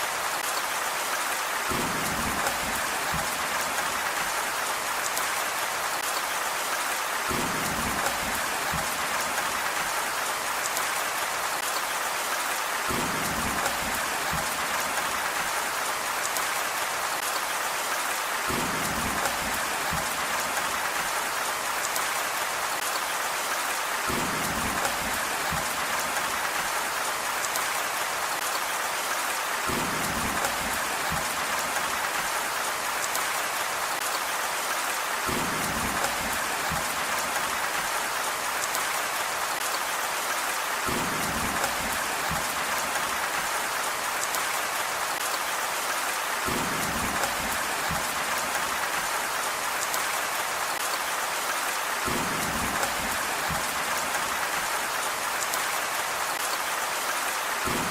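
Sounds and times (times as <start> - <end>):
rain falling on a surface: 0.0 - 57.9.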